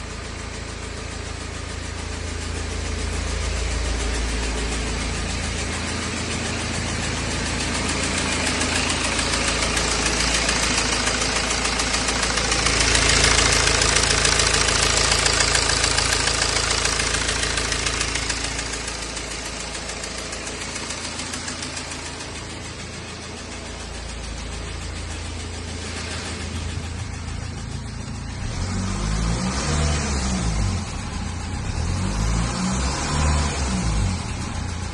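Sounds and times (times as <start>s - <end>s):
diesel engine running: 0.0s - 34.9s
engine ticking: 0.0s - 34.9s.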